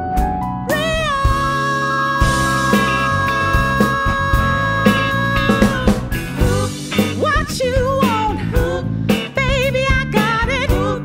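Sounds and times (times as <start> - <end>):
drum kit beating: 0.0 - 11.0
band playing: 0.1 - 11.0
woman singing with vibrato: 0.7 - 11.0.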